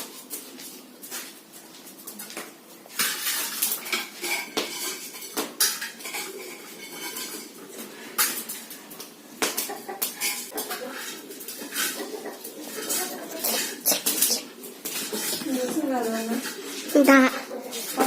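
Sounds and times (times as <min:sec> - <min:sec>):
metal pots clanking and scraping: 0:02.9 - 0:18.0.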